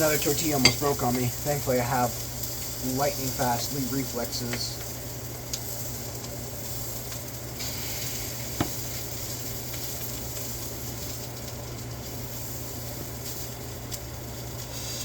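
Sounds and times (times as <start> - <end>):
tortillas sizzling in a pan: 0.0 - 15.0.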